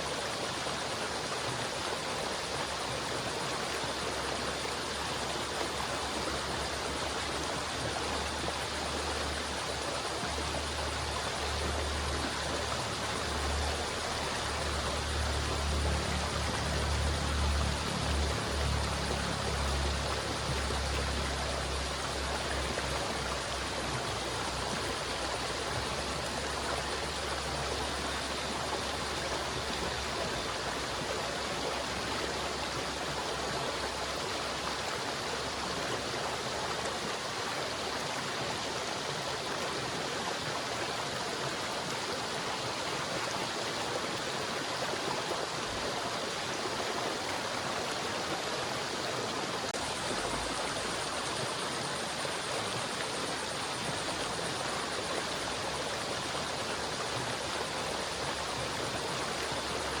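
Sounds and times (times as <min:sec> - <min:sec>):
river water rushing: 0:00.0 - 1:00.0.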